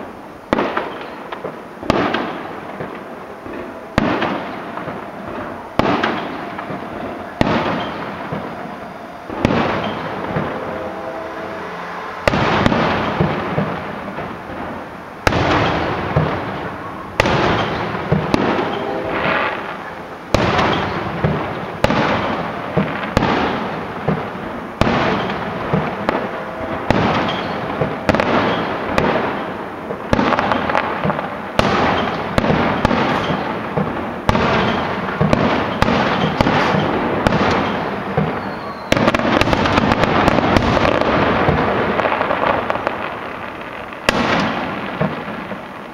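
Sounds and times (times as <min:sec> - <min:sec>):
fireworks booming: 0:00.0 - 0:45.9
fireworks crackling: 0:00.0 - 0:45.9.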